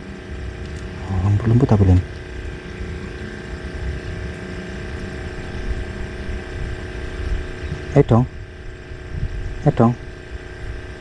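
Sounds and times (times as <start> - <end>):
faint steady tones: 0.0 - 11.0
steady motor hum: 0.0 - 11.0.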